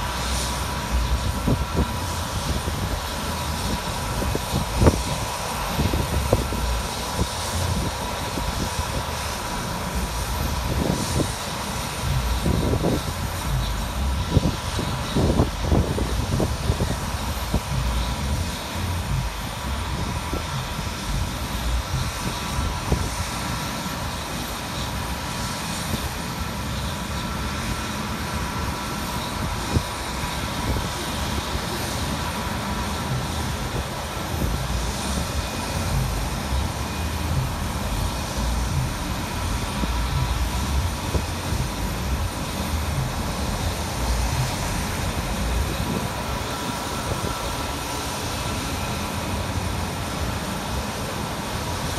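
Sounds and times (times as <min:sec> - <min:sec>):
jet engines whining: 0:00.0 - 0:51.9.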